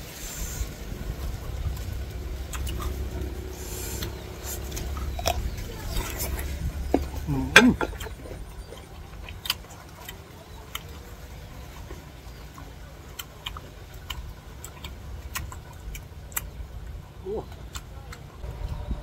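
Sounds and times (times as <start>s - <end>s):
crunchy chewing: 0.0s - 18.4s
low steady hum: 0.0s - 19.0s.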